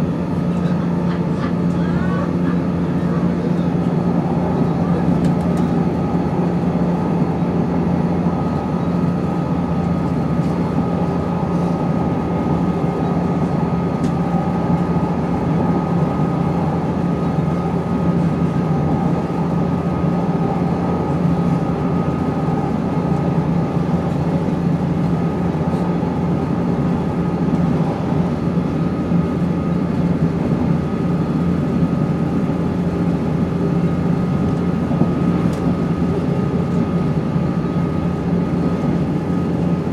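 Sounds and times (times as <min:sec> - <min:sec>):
train running drone: 0:00.0 - 0:39.9.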